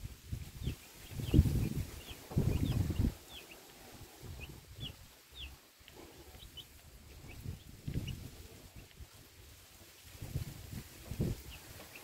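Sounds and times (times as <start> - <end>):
chicks peeping: 0.4 - 12.0.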